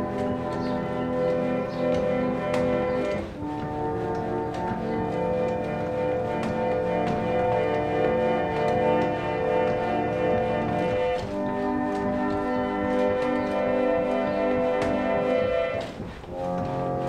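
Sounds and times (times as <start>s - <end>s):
pump organ chords: 0.0s - 17.0s.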